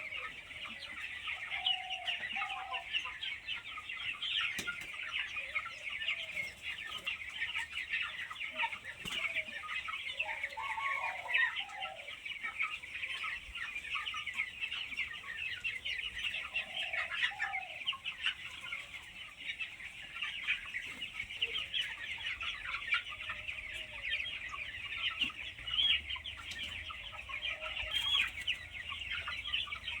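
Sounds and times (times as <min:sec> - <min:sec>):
chickens calling: 0:00.0 - 0:30.0.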